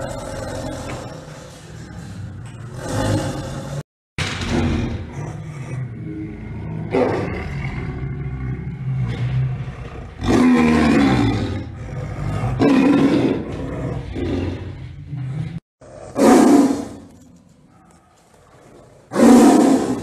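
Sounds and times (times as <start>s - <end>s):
tiger growling: 0.0s - 3.8s, 4.4s - 20.0s
tiger roaring: 0.0s - 3.8s, 4.4s - 20.0s.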